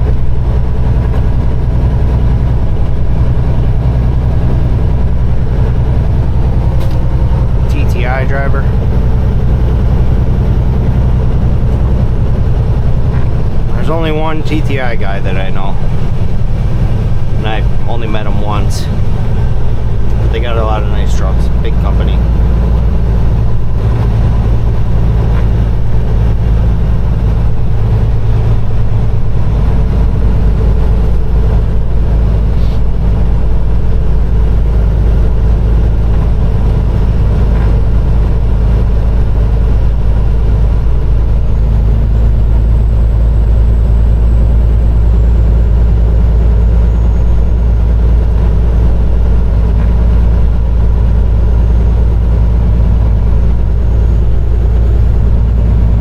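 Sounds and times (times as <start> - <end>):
truck diesel engine driving: 0.0 - 56.0.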